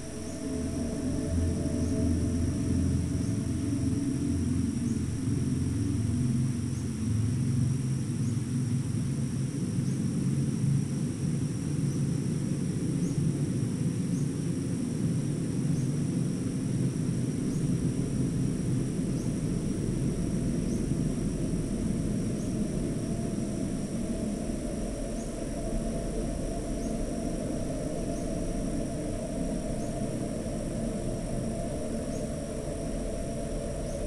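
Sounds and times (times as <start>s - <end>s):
high-pitched insect drone: 0.0s - 34.0s
steady low rumble: 0.0s - 34.0s.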